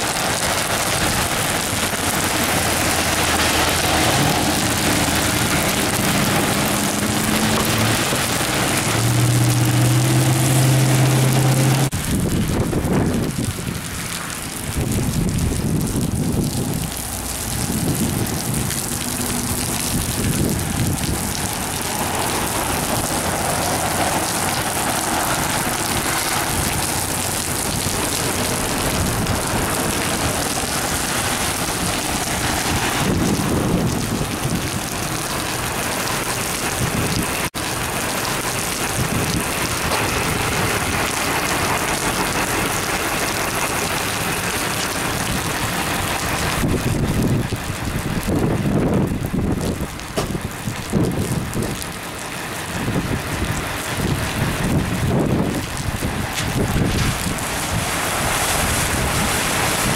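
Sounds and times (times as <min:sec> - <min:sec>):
tyres swishing through water: 0:00.0 - 0:48.7, 0:49.7 - 0:59.9
heavy rain on pavement: 0:00.0 - 0:59.9.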